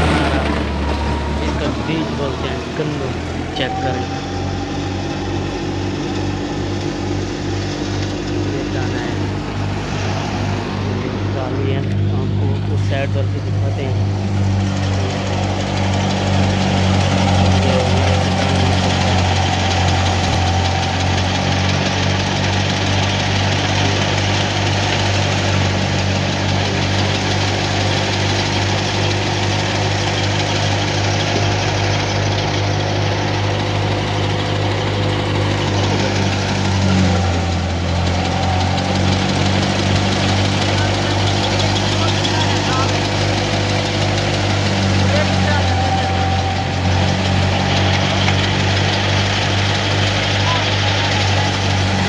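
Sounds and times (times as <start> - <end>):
engine low drone: 0.0 - 52.0
threshing drum whirring: 0.0 - 52.0.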